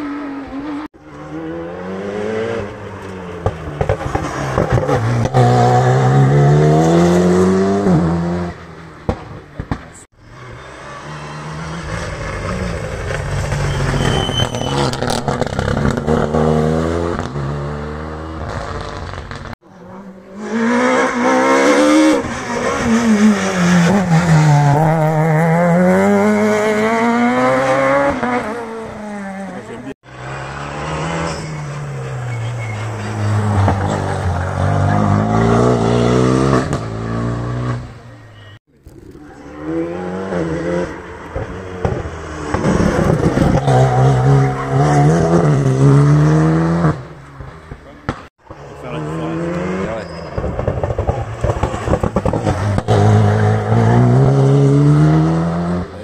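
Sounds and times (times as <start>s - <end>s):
rally car engine accelerating: 0.0s - 38.1s, 39.0s - 56.0s.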